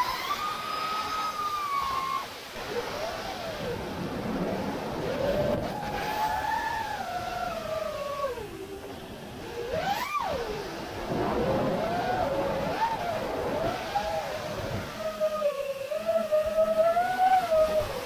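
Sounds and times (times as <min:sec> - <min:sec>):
drone motors whining: 0:00.0 - 0:18.0
wind rush: 0:00.0 - 0:18.0.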